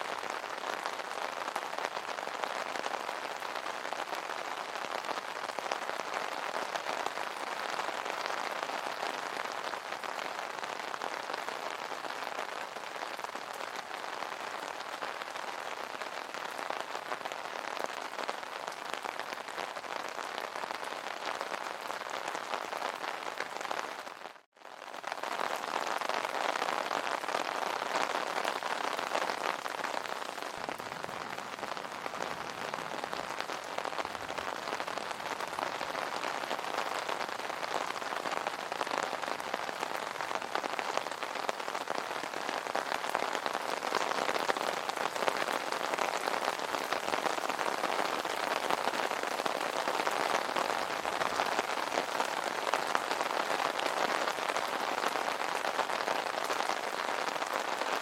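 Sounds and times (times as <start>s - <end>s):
rain falling on an umbrella: 0.0s - 58.0s.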